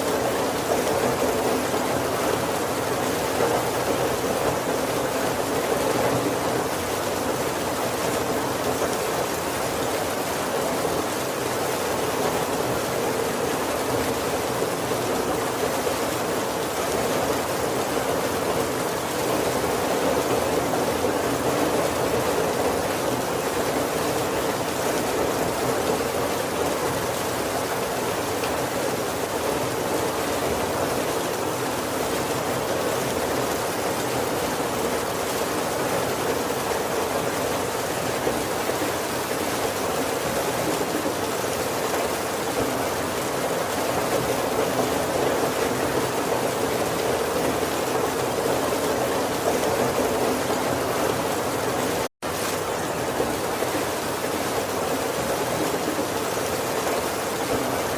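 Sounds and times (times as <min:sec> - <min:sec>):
heavy rain on a roof: 0:00.0 - 0:57.9.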